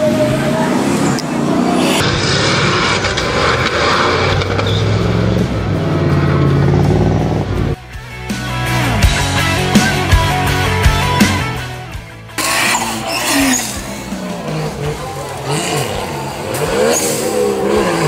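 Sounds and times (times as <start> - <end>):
tyre and dirt noise: 0.0 - 7.9, 11.0 - 18.0
race buggy engine droning: 0.0 - 18.0.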